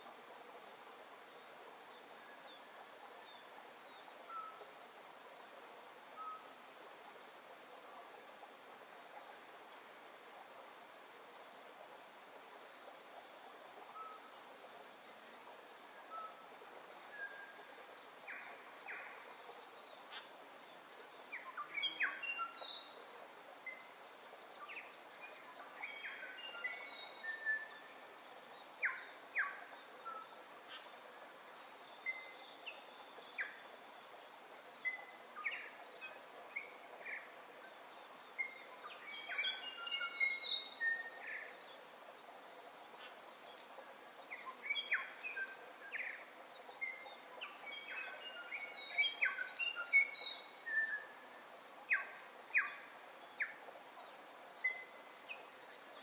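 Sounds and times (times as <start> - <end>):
steady background hiss: 0.0 - 56.0
wild birds chirping: 0.0 - 56.0.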